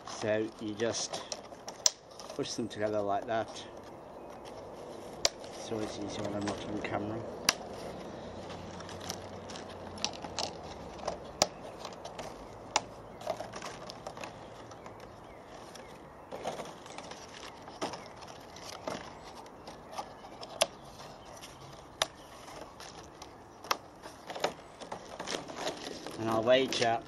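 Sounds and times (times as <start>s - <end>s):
rustle of handling: 0.0s - 27.0s.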